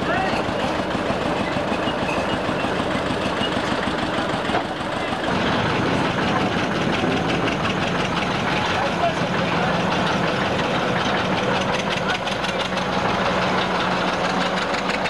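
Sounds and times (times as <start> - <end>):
diesel engine knocking beat: 0.0 - 15.0
locomotive engines running: 0.0 - 15.0.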